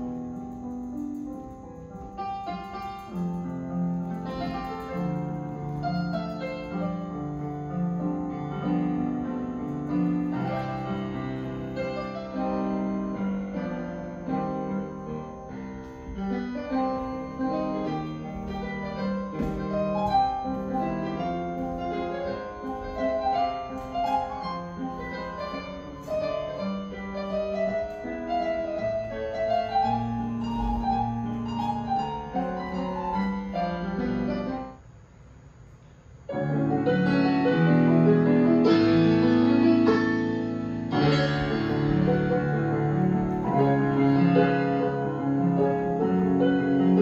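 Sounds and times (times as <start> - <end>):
solo piano music: 0.0 - 34.8, 36.2 - 47.0.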